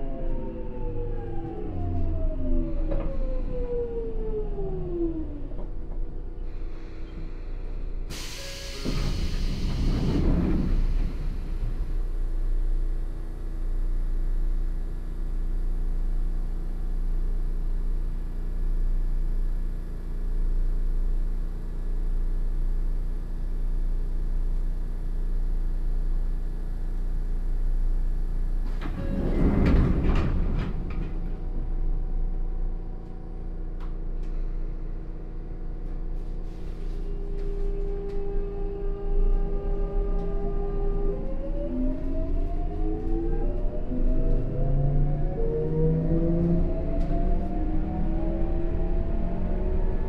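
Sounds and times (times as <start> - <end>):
electric train interior rumble: 0.0 - 50.0.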